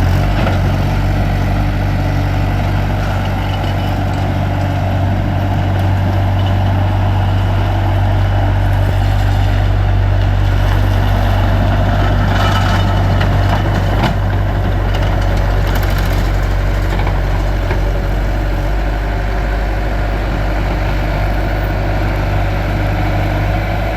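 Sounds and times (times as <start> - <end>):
diesel engine running steadily: 0.0 - 23.9.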